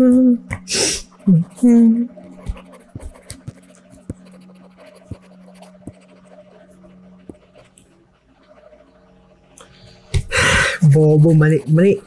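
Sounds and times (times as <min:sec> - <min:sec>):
steady low hum: 0:00.0 - 0:12.0
pen scratching on paper: 0:01.0 - 0:10.1, 0:10.7 - 0:12.0.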